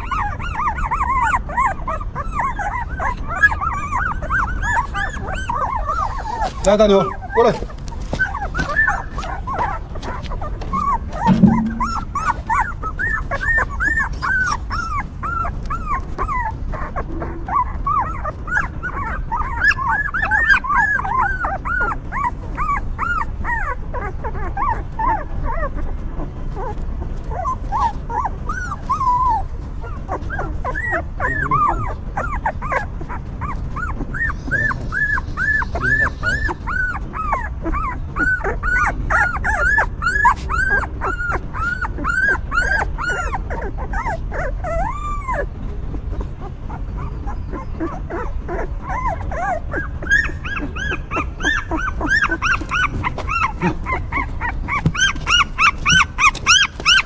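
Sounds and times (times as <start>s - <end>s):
newborn puppies whimpering: 0.0s - 57.0s.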